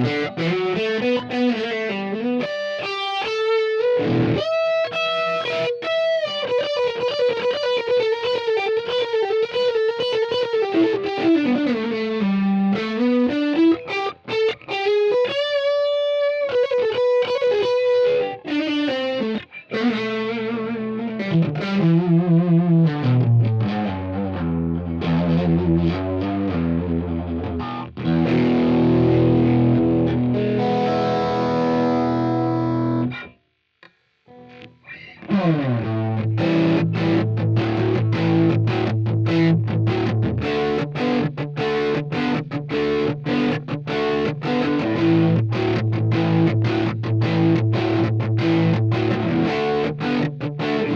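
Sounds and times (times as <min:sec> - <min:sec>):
distorted electric guitar: 0:00.0 - 0:50.9.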